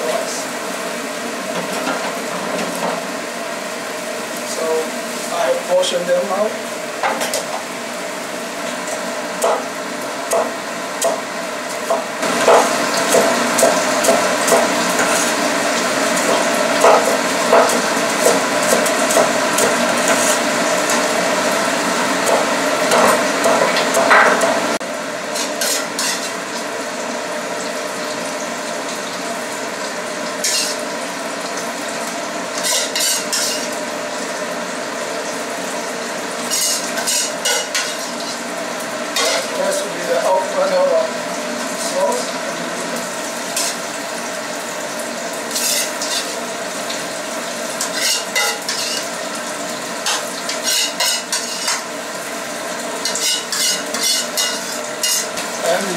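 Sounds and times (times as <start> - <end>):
sauce sizzling in a wok: 0.0 - 55.9.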